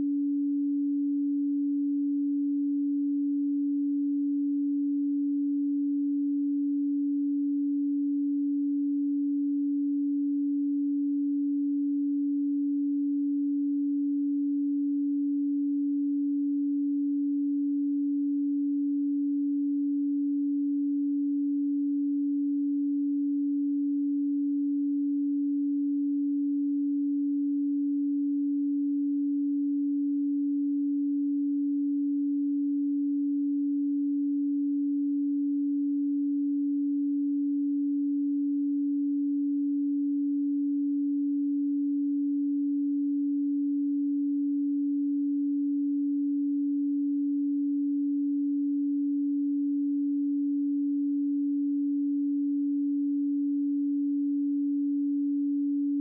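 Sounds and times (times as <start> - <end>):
pure sine tone: 0.0 - 56.0.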